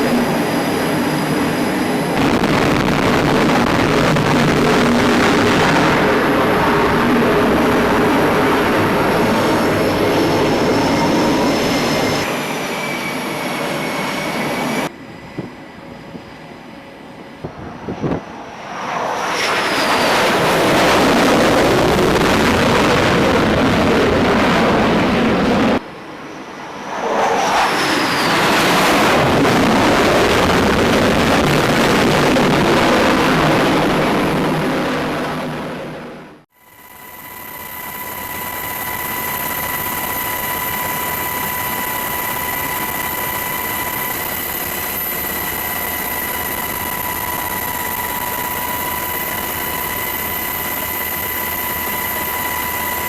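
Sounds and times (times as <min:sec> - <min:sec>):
jet engine with turbine whine: 0:00.0 - 0:53.0.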